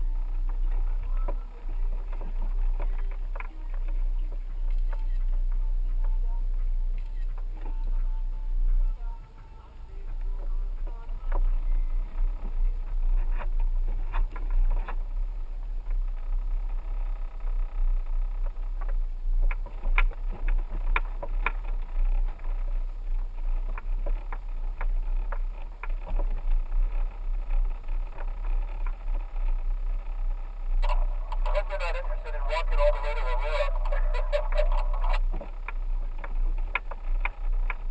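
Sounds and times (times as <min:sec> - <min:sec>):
truck rumbling on dirt road: 0:00.0 - 0:37.9.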